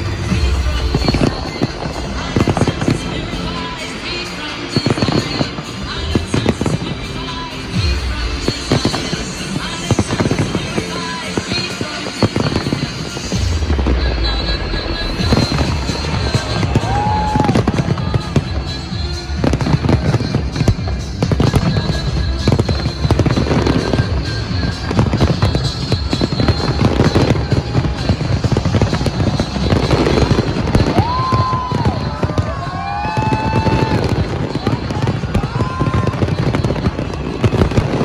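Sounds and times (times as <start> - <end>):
fireworks bursting and crackling: 0.0 - 38.0
music playing: 0.0 - 38.0.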